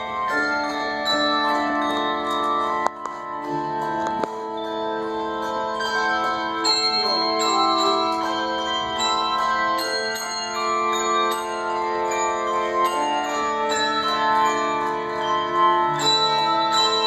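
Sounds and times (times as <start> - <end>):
handbell choir playing: 0.0 - 17.0.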